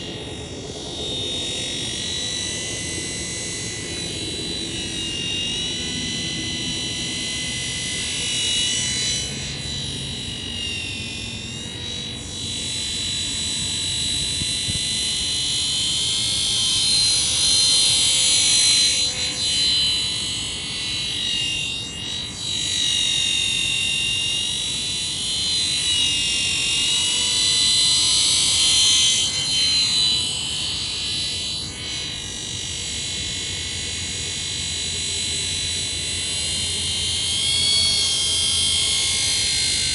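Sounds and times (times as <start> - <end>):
rc helicopter rotor whine: 0.0 - 39.9.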